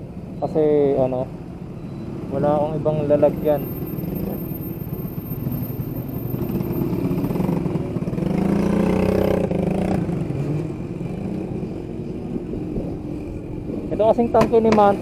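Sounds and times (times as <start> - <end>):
small motorcycle engines in traffic: 0.0 - 15.0
motorcycle revving: 2.2 - 15.0.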